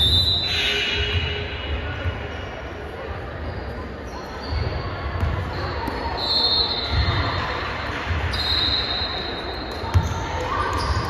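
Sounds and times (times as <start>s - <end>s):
distant chatter in gym: 0.0s - 11.0s.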